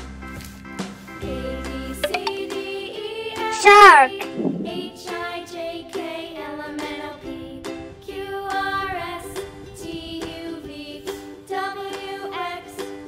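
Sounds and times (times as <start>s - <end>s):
children's music with singing: 1.2s - 13.0s.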